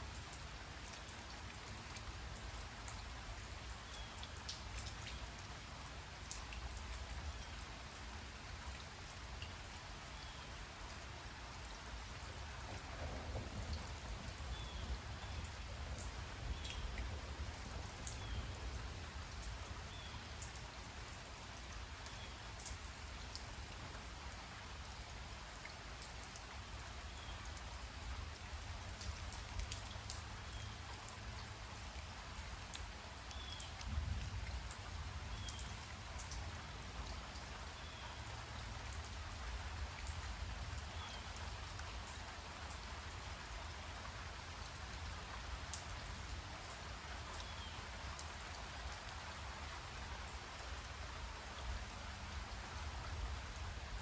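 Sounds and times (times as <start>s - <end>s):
light rain hissing: 0.0s - 54.0s
raindrops ticking: 0.1s - 25.1s, 25.9s - 49.3s.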